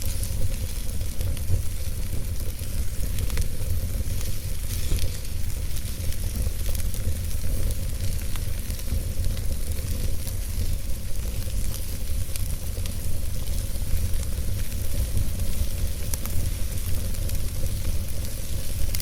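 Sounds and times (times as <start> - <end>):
fire crackles and pops: 0.0 - 19.0
fire rumbling and hissing: 0.0 - 19.0.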